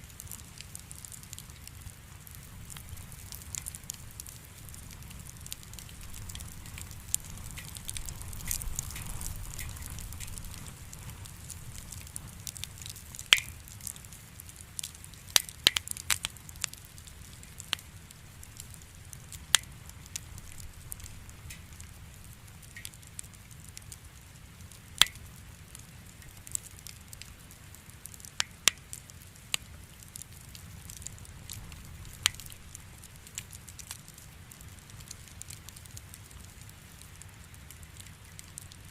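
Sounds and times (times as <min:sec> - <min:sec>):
campfire flames rumbling: 0:00.0 - 0:38.9
firewood popping and crackling: 0:00.0 - 0:38.9.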